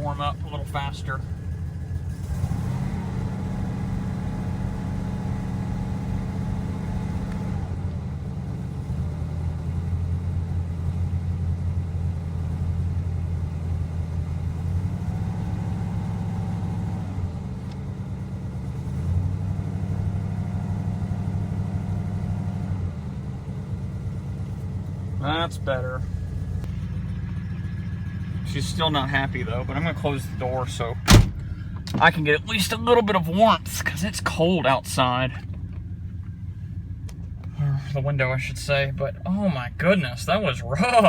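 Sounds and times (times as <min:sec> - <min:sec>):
car engine running rough: 0:00.0 - 0:41.0.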